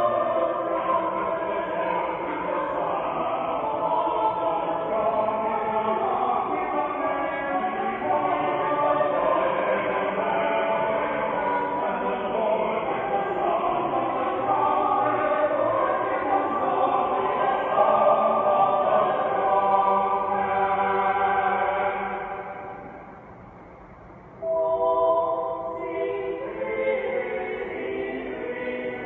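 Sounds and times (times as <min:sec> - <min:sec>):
church choir singing: 0:00.0 - 0:23.4, 0:24.4 - 0:29.0.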